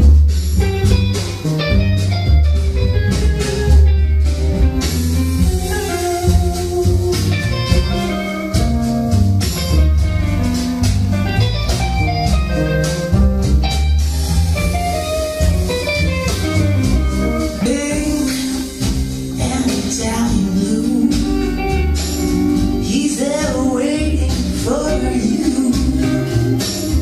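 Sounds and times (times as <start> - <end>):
guitar and bass music: 0.0 - 27.0.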